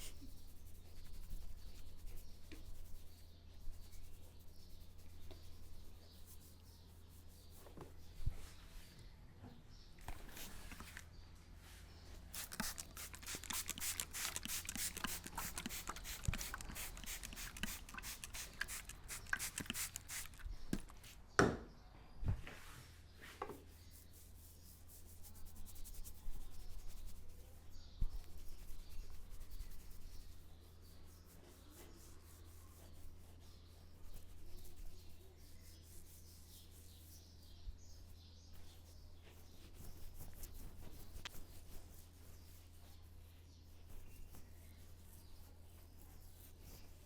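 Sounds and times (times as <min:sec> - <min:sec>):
fingers rubbing through hair: 0:00.0 - 0:08.6, 0:10.0 - 0:11.2, 0:11.9 - 0:21.2, 0:23.8 - 0:38.0, 0:38.6 - 0:47.0.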